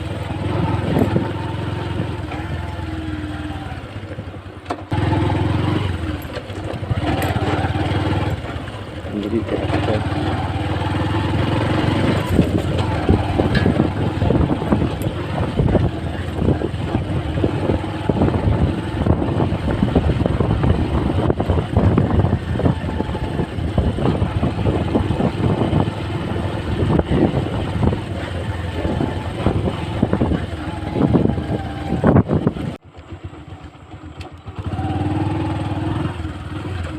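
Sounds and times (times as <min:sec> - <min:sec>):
knocks and buffeting: 0:00.0 - 0:36.9
motorcycle engine rumble: 0:00.0 - 0:36.9.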